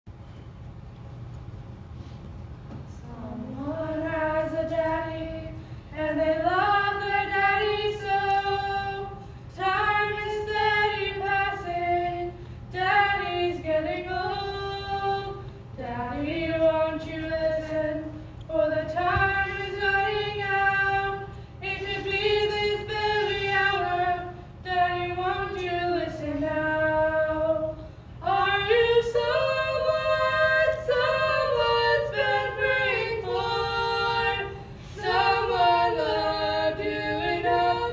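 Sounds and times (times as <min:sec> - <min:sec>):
women singing a cappella: 0:02.9 - 0:37.9.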